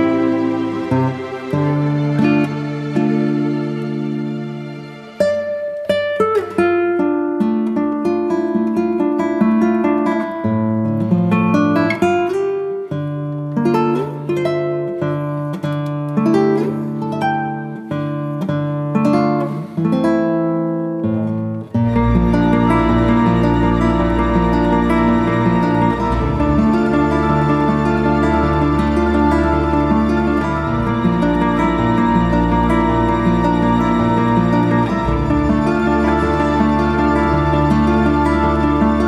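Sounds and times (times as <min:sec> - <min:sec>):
acoustic guitar plucking melody: 0:00.0 - 0:39.0.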